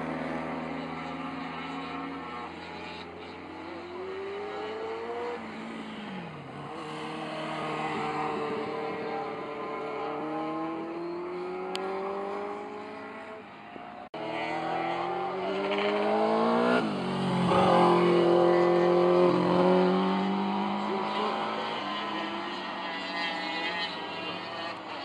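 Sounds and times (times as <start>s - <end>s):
motorcycle engines accelerating past: 0.0s - 25.0s.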